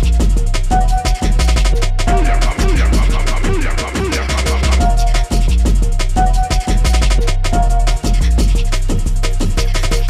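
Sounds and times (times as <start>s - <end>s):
bass-heavy dance music: 0.0s - 10.0s.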